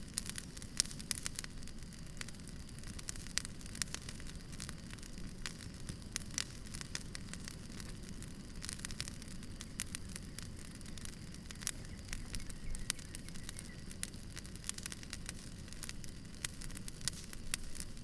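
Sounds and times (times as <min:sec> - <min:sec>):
burning wood crackling and popping: 0:00.0 - 0:18.0
low rush of flames: 0:00.0 - 0:18.0.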